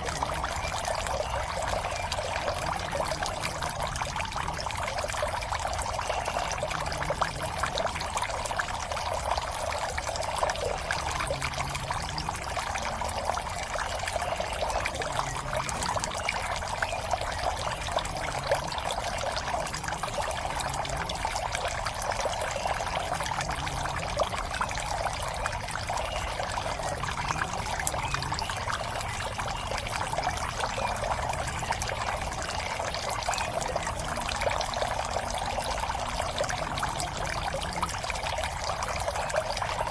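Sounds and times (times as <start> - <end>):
water pouring into a pond: 0.0 - 39.9.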